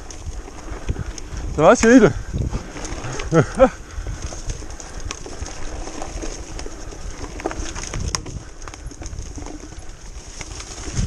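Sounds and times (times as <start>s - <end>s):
bike rattling over bumps: 0.0s - 11.0s
bike tyres rolling over dirt: 0.0s - 11.0s.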